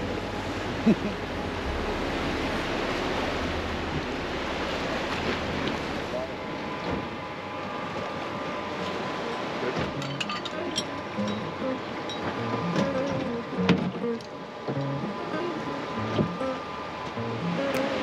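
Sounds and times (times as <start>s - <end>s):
low steady rumble: 0.0s - 17.7s
sea waves washing: 0.0s - 18.0s.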